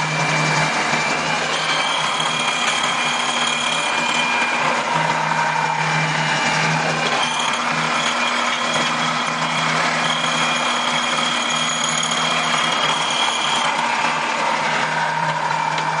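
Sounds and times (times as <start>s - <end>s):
drilling machine running: 0.0s - 16.0s
thin high whine: 0.0s - 16.0s.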